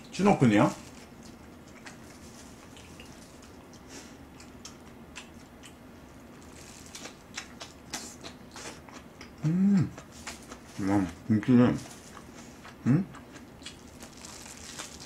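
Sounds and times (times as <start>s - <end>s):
person chewing food: 1.0s - 11.2s, 11.8s - 15.0s.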